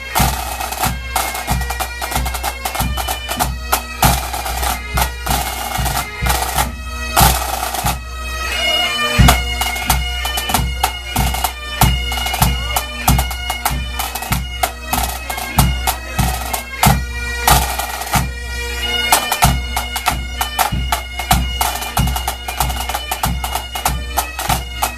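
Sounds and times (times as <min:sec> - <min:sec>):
drum beat: 0:00.0 - 0:08.0, 0:09.2 - 0:18.3, 0:19.1 - 0:24.9
bagpipe melody with drones: 0:00.0 - 0:24.9.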